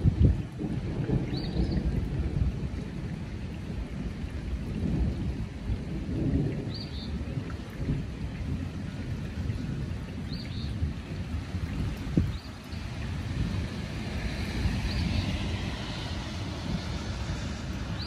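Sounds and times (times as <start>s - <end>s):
thunder rumbling: 0.0s - 18.0s.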